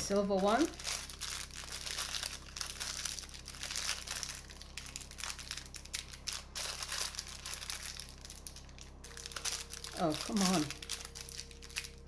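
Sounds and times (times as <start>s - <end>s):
packaging crinkling and rustling: 0.1s - 12.0s.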